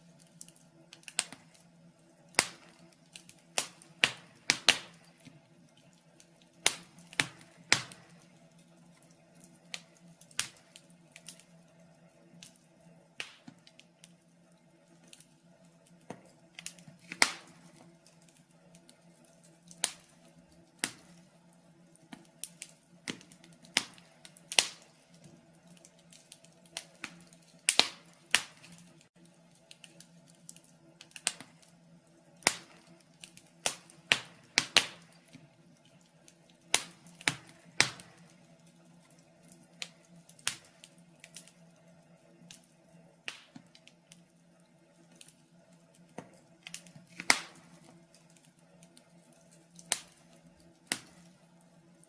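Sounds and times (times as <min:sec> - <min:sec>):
faint steady hum: 0:00.0 - 0:52.0
wood fire crackling: 0:00.0 - 0:52.0.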